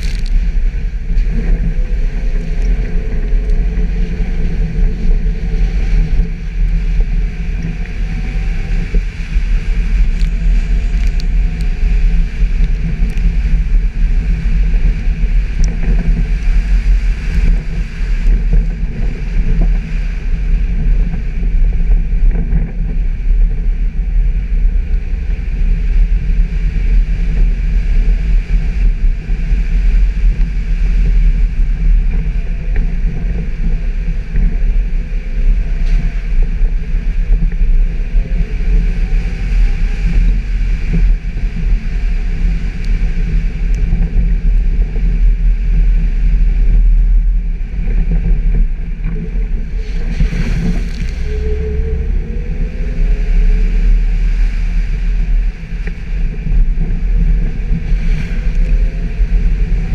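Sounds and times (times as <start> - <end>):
vehicle driving off-road: 0.0 - 59.9.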